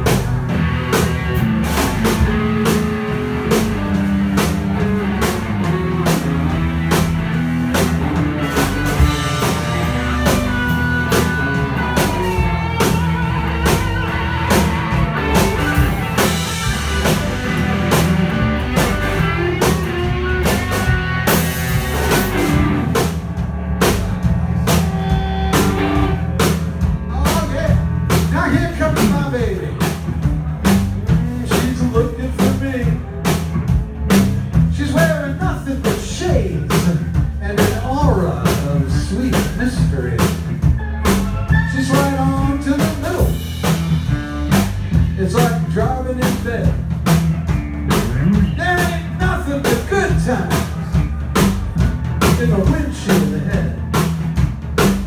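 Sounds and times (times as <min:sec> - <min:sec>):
drum kit beat: 0:00.0 - 0:55.0
live band playing blues rock: 0:00.0 - 0:55.0
steel guitar: 0:00.0 - 0:55.0.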